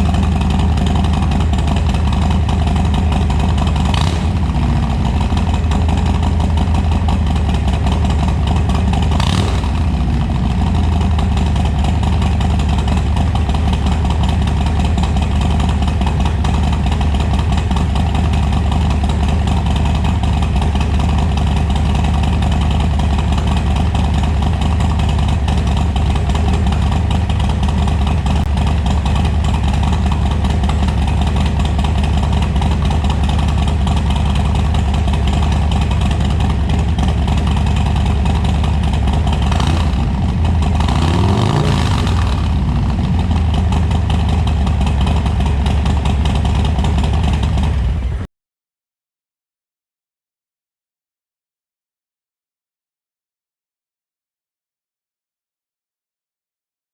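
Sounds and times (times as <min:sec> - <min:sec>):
motorcycle engine revving: 0:00.0 - 0:48.2
motorcycle idling: 0:00.0 - 0:48.3.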